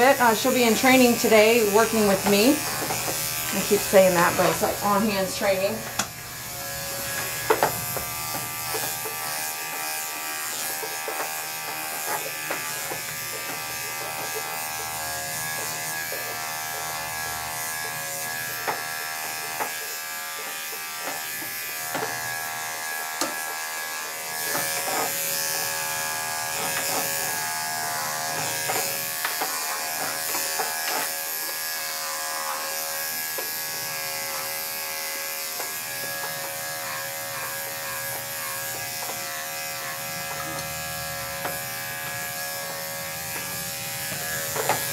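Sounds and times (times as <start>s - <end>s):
electric clippers buzzing: 0.0s - 44.9s.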